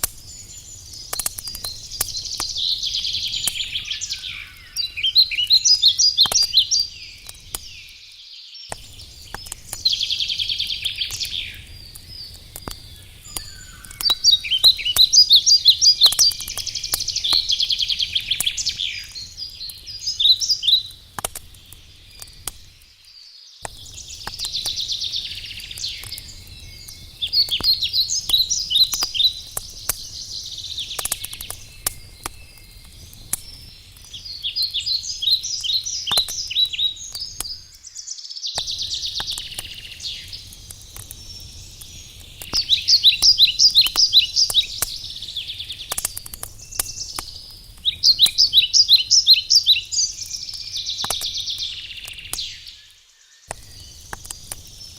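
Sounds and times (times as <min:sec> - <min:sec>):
campfire crackling and popping: 0:00.0 - 0:38.0, 0:38.6 - 0:54.9
songbirds singing: 0:00.0 - 0:54.9.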